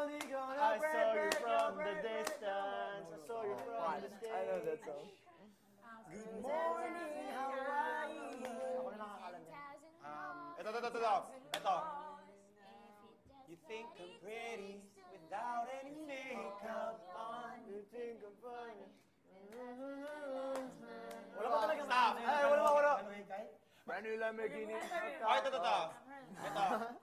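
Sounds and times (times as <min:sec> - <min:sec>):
people singing a cappella: 0:00.0 - 0:27.0.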